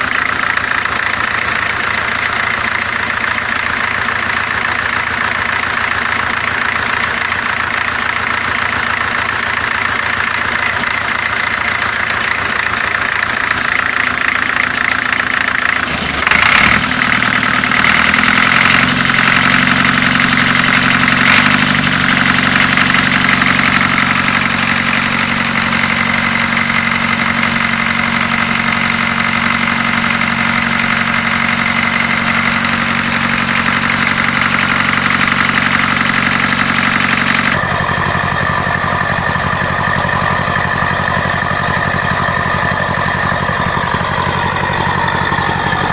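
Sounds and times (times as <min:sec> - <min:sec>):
marine diesel engine running: 0:00.0 - 0:45.9.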